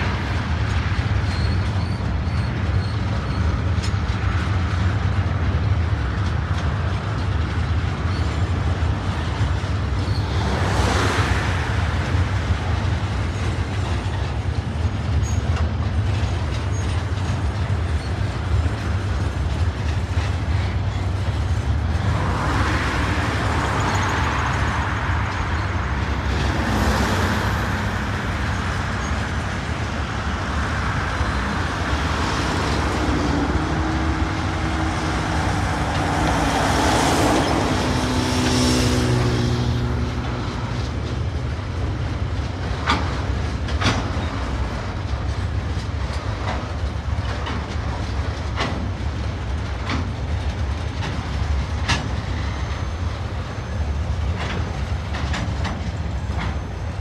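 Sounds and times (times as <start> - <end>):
freight wagons rumbling over bridge: 0.0 - 57.0
road traffic hissing: 0.0 - 57.0.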